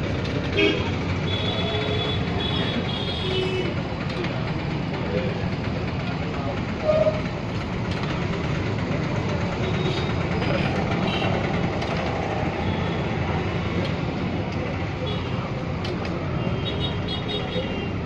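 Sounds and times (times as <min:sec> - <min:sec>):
street noise rumble: 0:00.0 - 0:18.0.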